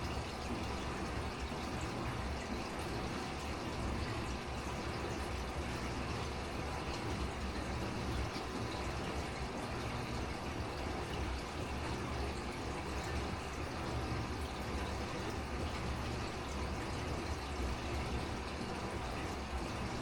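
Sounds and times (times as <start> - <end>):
low pump hum: 0.0 - 20.0
water trickling: 0.0 - 20.0.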